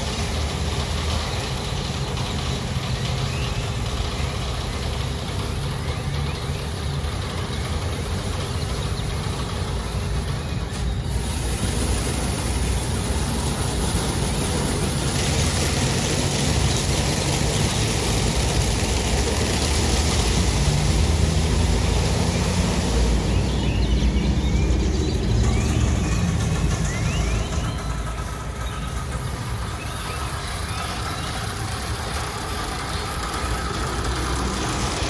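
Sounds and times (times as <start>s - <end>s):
car wash rushing hiss: 0.0s - 35.0s
low engine hum: 0.0s - 35.0s.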